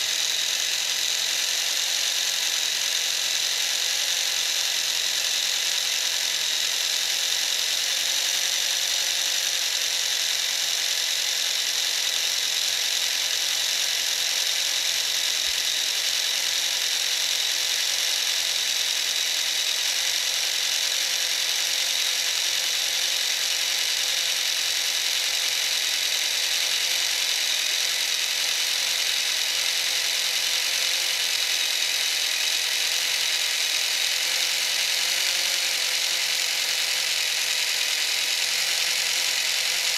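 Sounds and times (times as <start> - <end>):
small electric motor whirring: 0.0 - 39.9.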